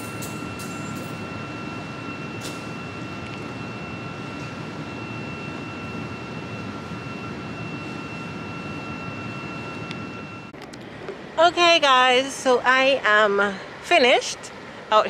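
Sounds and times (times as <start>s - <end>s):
constant high whine: 0.0s - 15.0s.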